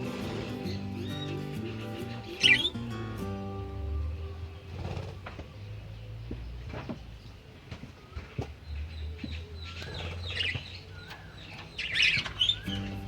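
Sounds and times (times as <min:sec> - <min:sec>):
budgerigars chirping and warbling: 0:00.0 - 0:03.0, 0:04.4 - 0:07.4, 0:08.0 - 0:13.0.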